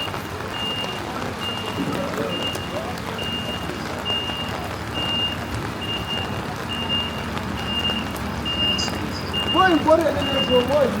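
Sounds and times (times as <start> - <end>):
reversing alarm beeping: 0.0 - 10.9
street noise: 0.0 - 11.0.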